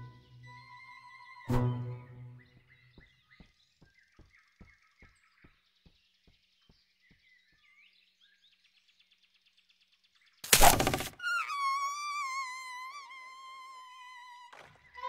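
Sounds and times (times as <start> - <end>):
birds chirping softly: 0.0 - 15.0.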